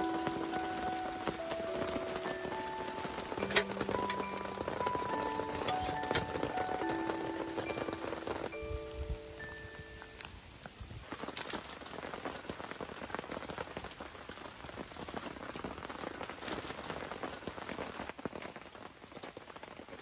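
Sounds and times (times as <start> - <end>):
rain on a tarp: 0.0 - 20.0.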